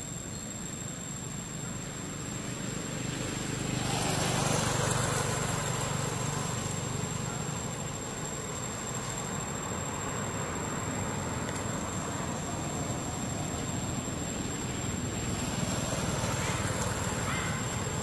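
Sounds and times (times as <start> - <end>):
vehicle driving past: 2.0 - 18.0.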